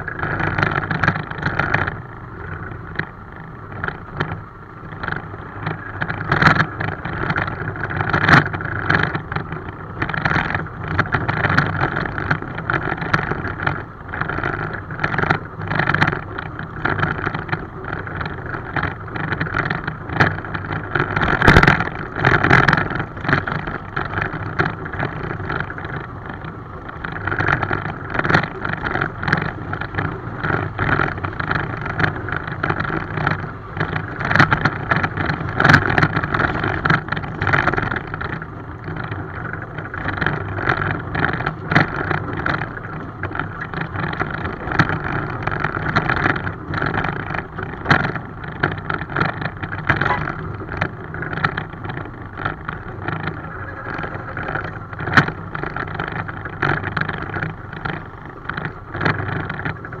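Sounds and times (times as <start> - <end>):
miniature train running on track: 0.0 - 60.0
track clicks and knocks: 5.0 - 60.0.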